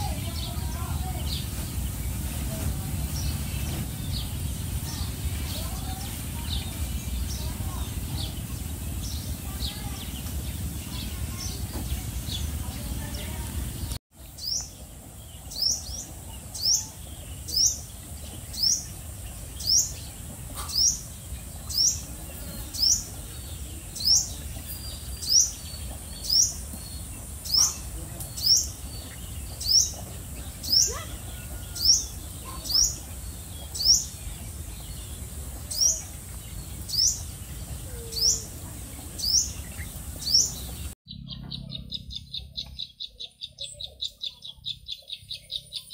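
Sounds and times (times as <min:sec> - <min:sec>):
low rumbling background noise: 0:00.0 - 0:43.9
bird chirping: 0:00.0 - 0:45.9.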